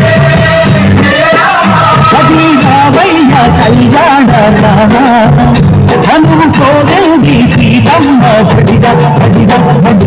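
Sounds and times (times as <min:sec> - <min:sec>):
person singing devotional song: 0:00.0 - 0:10.0
steady drum beat: 0:00.0 - 0:10.0.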